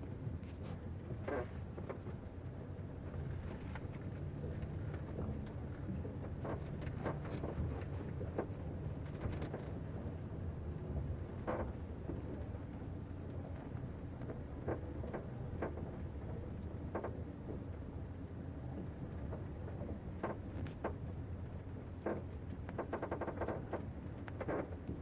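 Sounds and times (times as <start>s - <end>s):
low rumble of car: 0.0s - 25.0s.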